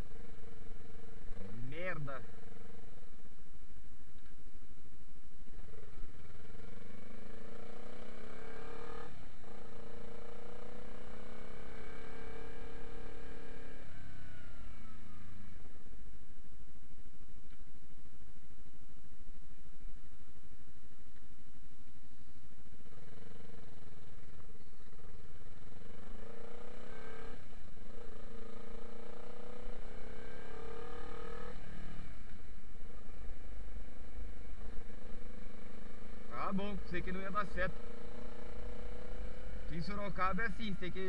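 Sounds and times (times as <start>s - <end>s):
motorcycle engine accelerating: 0.0s - 41.0s.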